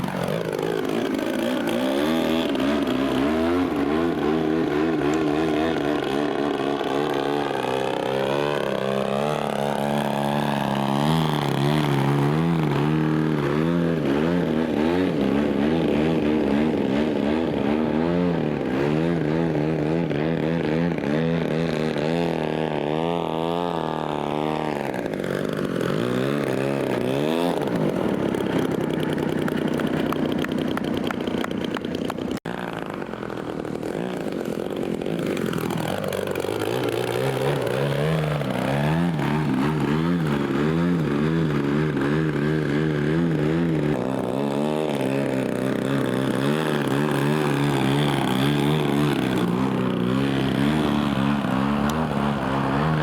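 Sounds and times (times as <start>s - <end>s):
model aircraft engine buzzing: 0.0s - 53.0s.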